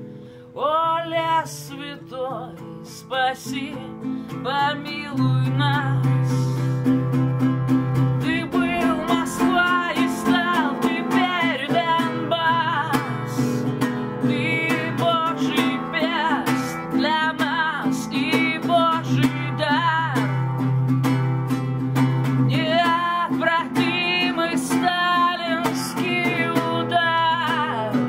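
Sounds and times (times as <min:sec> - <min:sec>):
classical guitar accompaniment: 0:00.0 - 0:28.0
woman singing: 0:00.5 - 0:07.2, 0:07.9 - 0:20.8, 0:22.2 - 0:28.0.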